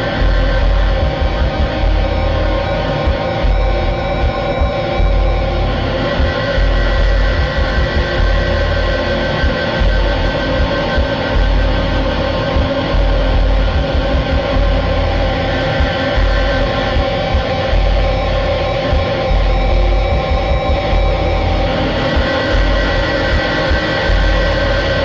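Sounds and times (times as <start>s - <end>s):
background music with held tones: 0.0s - 25.0s.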